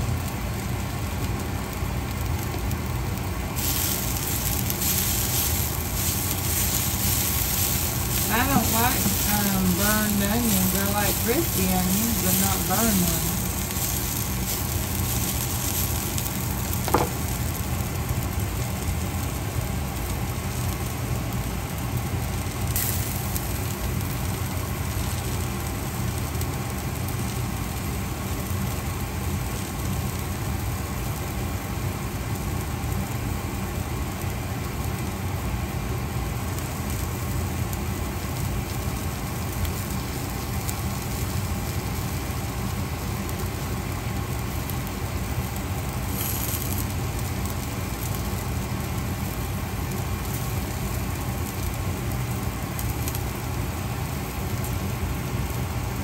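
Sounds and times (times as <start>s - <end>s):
vegetables sizzling in frying pan: 0.0s - 56.0s.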